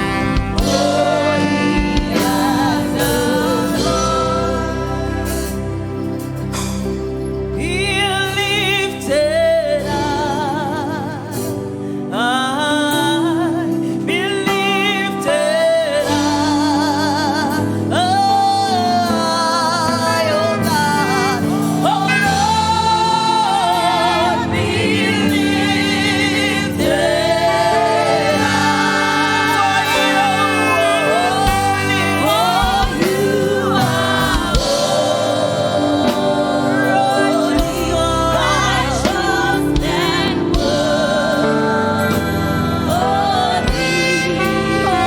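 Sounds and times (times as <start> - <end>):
person singing with vibrato: 0.0 - 6.8, 7.5 - 45.0
sustained instrumental accompaniment: 0.0 - 45.0.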